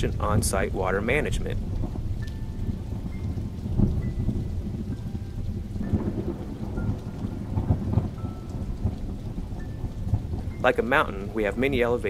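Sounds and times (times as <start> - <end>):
low rumble of thunder: 0.0 - 12.0
rain falling: 0.0 - 12.0.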